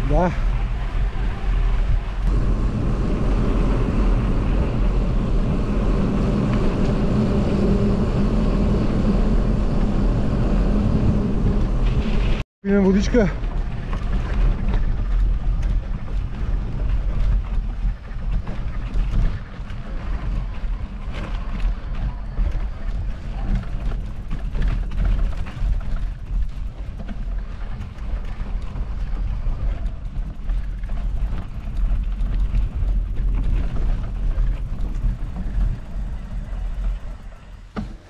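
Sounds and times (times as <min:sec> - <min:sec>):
wind buffeting microphone: 0:00.0 - 0:12.4, 0:13.0 - 0:38.0.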